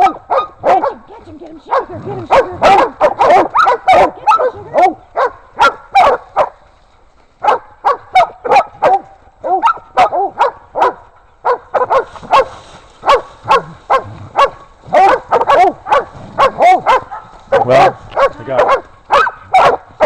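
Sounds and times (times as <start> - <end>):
dogs barking rapidly: 0.0 - 6.6, 7.4 - 20.0.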